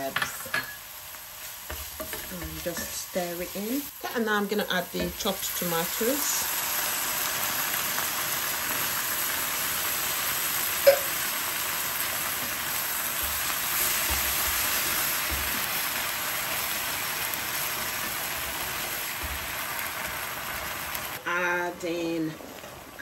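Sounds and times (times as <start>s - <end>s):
vegetables sizzling in pan: 0.0s - 23.0s.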